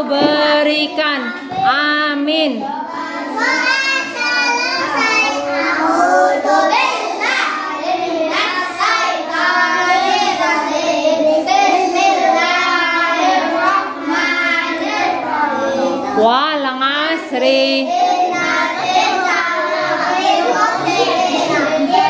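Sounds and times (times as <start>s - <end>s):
children chanting in unison: 2.6s - 16.2s, 17.8s - 22.0s.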